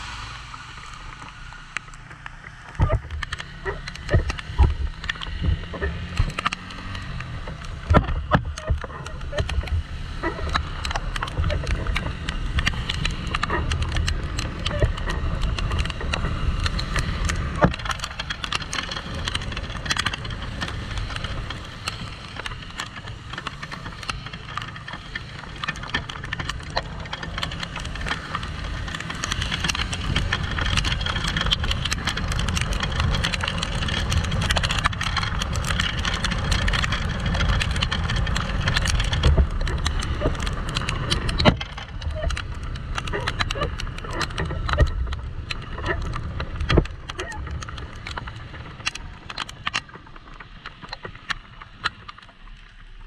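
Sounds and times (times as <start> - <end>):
motorcycle rumble: 0.0 - 53.0
rain drops ticking on camera housing: 0.0 - 53.0.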